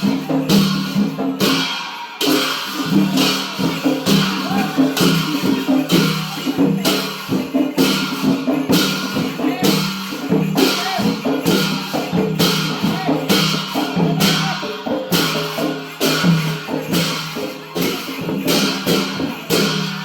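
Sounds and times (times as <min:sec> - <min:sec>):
cymbals clashing: 0:00.0 - 0:20.0
drums: 0:00.0 - 0:20.0.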